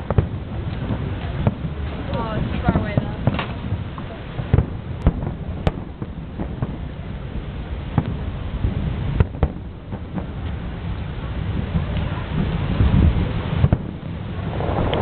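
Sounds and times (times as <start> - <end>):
fireworks bangs: 0.0 - 15.0
steady low rumble: 0.0 - 15.0.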